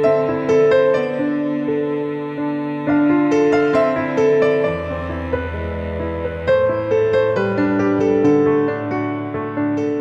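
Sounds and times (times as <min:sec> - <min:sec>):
slow gentle background music: 0:00.0 - 0:09.2.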